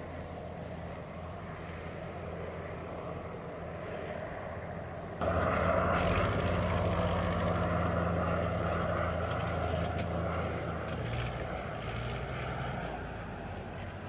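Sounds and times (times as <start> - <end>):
propeller aircraft droning by: 0.0 - 14.0.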